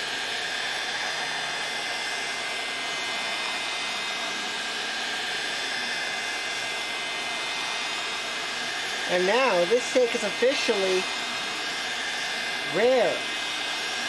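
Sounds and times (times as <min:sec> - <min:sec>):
heat gun fan blowing: 0:00.0 - 0:14.0
high motor whine: 0:00.0 - 0:14.0.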